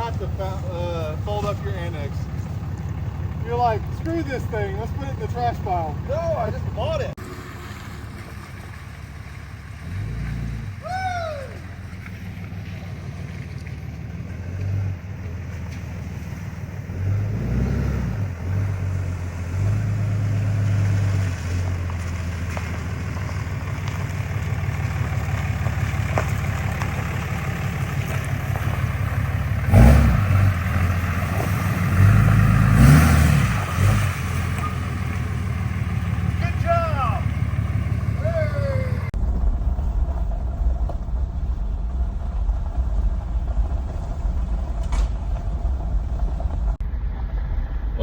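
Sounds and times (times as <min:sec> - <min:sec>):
vehicle engine droning: 0:00.0 - 0:48.0.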